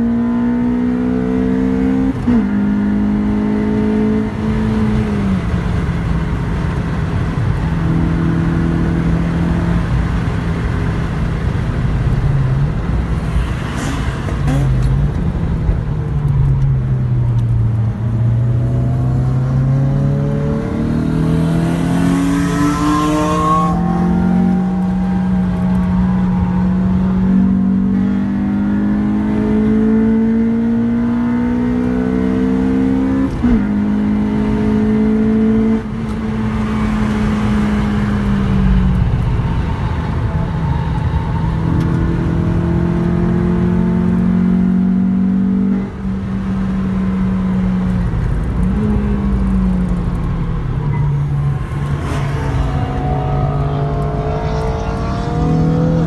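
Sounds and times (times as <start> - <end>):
car engine under hard acceleration: 0.0 - 56.0.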